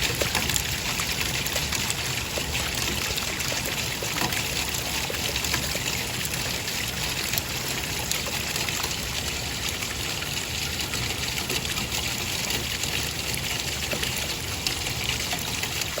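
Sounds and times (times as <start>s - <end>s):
running water trickling: 0.0s - 16.0s.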